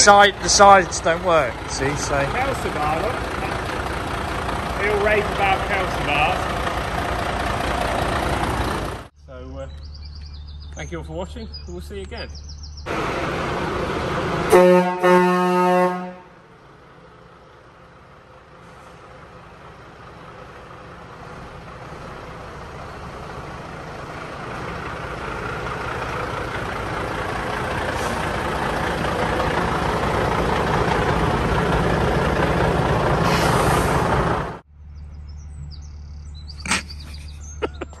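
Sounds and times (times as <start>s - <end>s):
truck diesel engine running: 0.0s - 38.0s.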